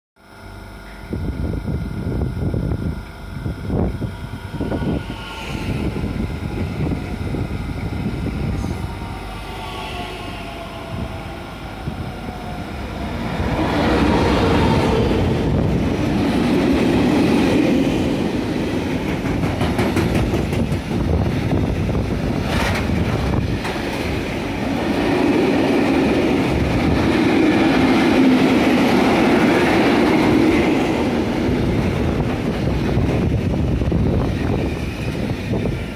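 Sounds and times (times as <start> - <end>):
electric train motor whine: 0.2 - 35.9
freight train rumbling past: 1.2 - 35.9.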